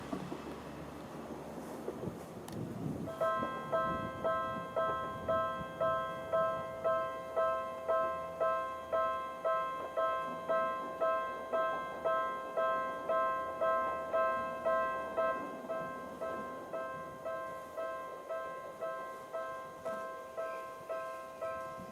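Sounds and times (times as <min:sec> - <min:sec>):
level-crossing warning bell: 0:03.0 - 0:21.9.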